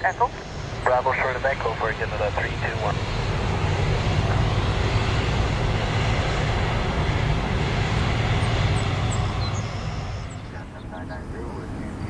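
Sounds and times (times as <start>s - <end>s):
deep rumble: 0.0s - 12.0s
jet engines roaring: 0.0s - 12.0s.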